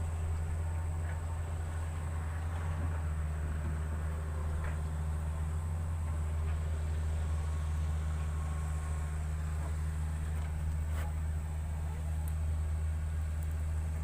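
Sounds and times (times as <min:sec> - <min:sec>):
small engine droning: 0:00.0 - 0:14.0.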